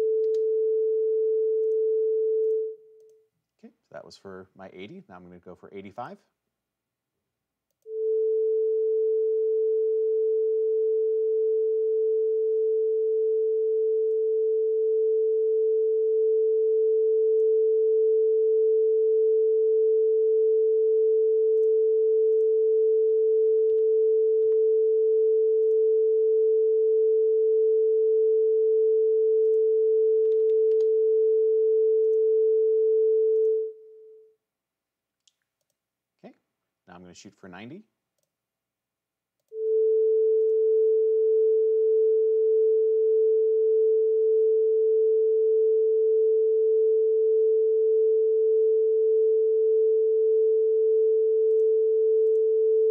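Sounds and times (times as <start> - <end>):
steady sine tone: 0.0 - 2.8, 7.9 - 34.3, 39.5 - 52.9.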